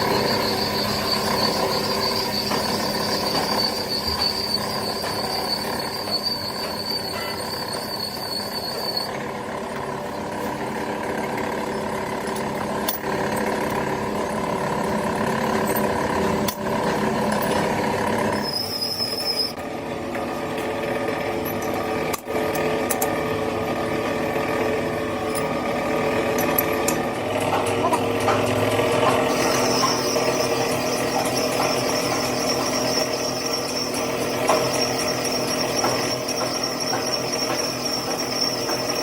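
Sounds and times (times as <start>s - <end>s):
machine motor humming and whining: 0.0s - 7.6s, 9.0s - 39.0s.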